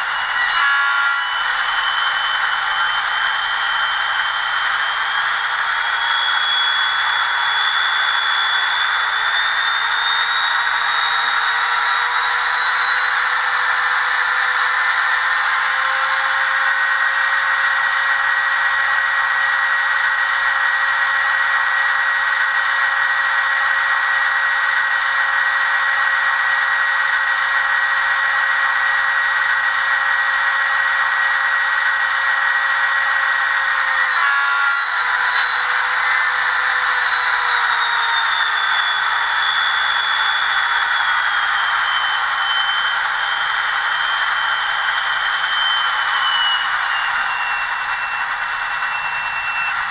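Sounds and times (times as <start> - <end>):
diesel locomotive engine drone: 0.0 - 49.9.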